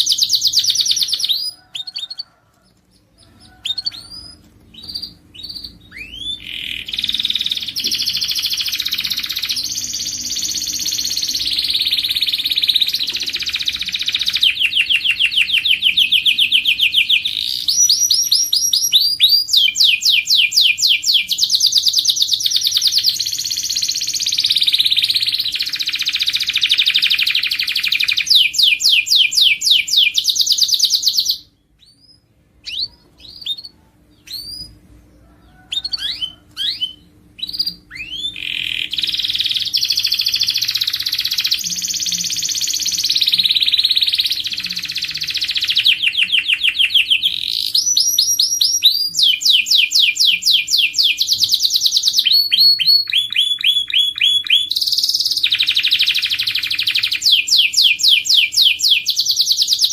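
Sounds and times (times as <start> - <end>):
canary chirps: 0.0 - 59.9
canary singing trills: 0.0 - 59.9.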